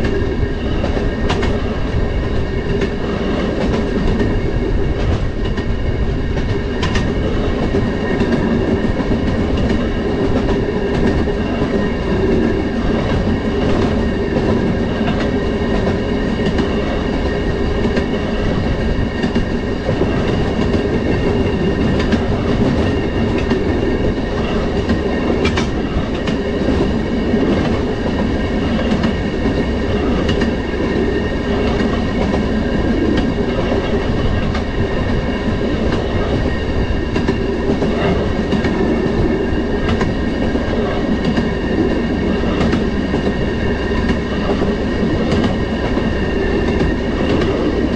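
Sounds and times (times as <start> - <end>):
rail motorcar engine and wheels: 0.0 - 47.9
wheels clicking over rail joints: 0.0 - 47.9.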